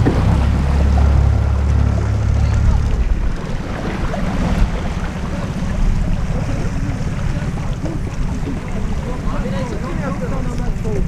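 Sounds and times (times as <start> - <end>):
outboard engine running: 0.0 - 11.0
splashing water: 0.0 - 11.0
wind on microphone: 0.0 - 11.0.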